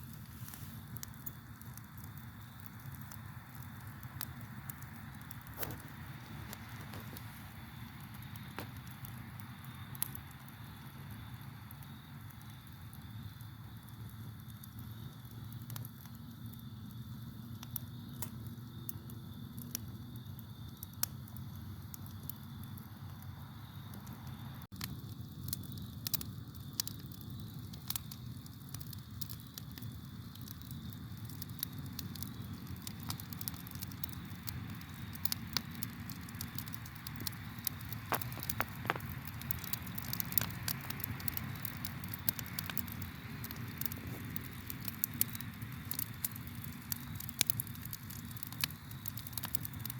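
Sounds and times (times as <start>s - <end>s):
campfire crackling: 0.0s - 49.9s
crickets chirping: 0.0s - 49.9s.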